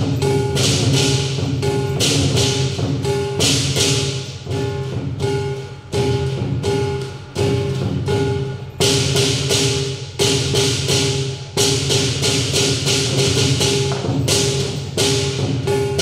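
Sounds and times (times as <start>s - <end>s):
big drum beating fast: 0.0s - 16.0s
clashing cymbals: 0.0s - 16.0s
gong: 0.0s - 16.0s.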